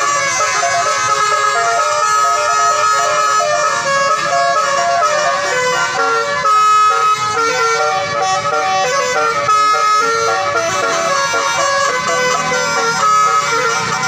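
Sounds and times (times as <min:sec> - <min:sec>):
musical air horn playing a tune: 0:00.0 - 0:14.0.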